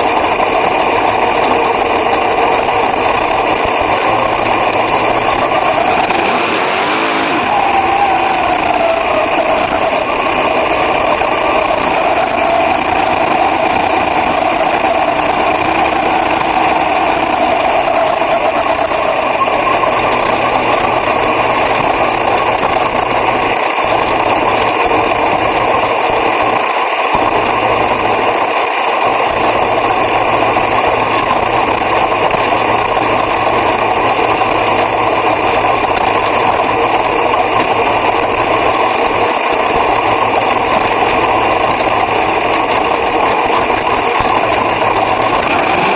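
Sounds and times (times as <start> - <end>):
racing car engine at high revs: 0.0 - 45.9.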